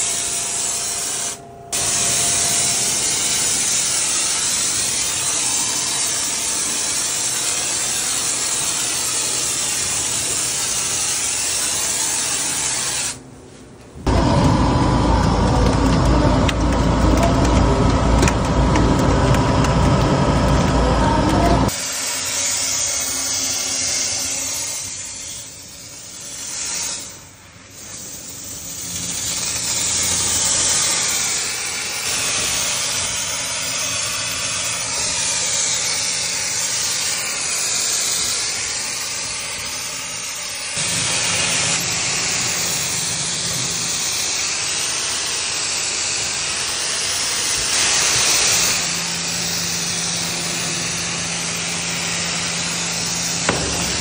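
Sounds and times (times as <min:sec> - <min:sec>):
pressure washer spraying hiss: 0:00.0 - 0:13.3, 0:21.6 - 0:54.0.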